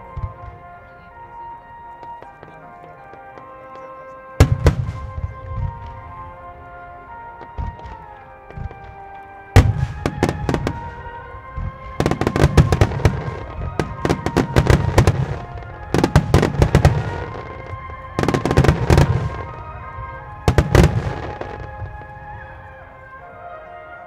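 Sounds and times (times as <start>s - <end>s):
fireworks bursting: 0.0s - 22.8s
music playing: 0.0s - 24.0s.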